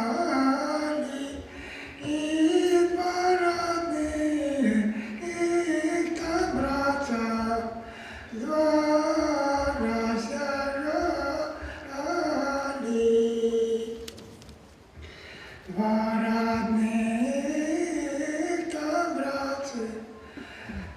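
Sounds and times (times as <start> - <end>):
person singing slow melody: 0.0 - 14.4, 15.5 - 20.9.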